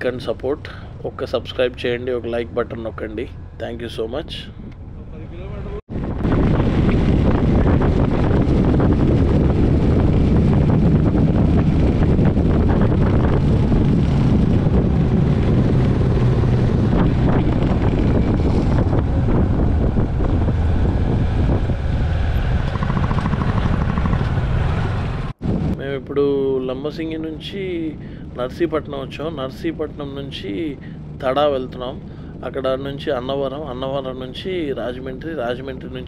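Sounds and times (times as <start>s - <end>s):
motorcycle engine drone: 0.0s - 36.0s
wind rushing over microphone: 0.0s - 36.0s.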